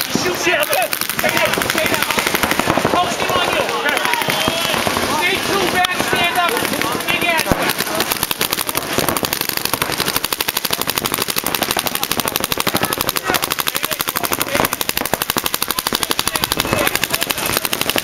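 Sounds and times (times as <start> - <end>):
paintball markers firing: 0.0 - 18.0.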